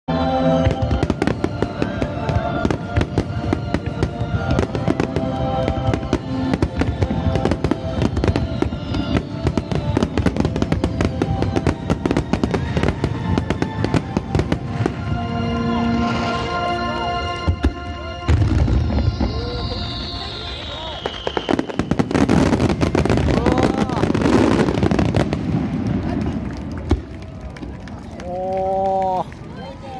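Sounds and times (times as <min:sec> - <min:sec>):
music playing: 0:00.1 - 0:26.0
fireworks banging and crackling: 0:00.5 - 0:28.3.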